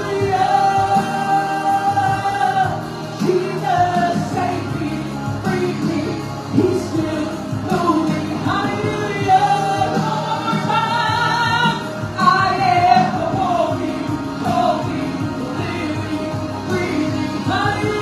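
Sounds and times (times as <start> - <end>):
woman singing gospel song: 0.0 - 18.0.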